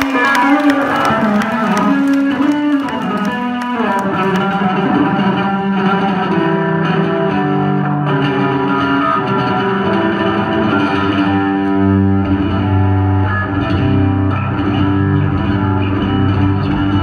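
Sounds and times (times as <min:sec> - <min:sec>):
electric bass guitar notes: 0:00.0 - 0:17.0.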